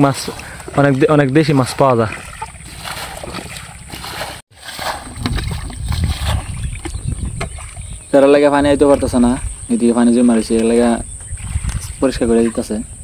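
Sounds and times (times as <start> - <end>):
bucket scooping water: 0.0 - 12.8
water sloshing and splashing: 0.0 - 12.8.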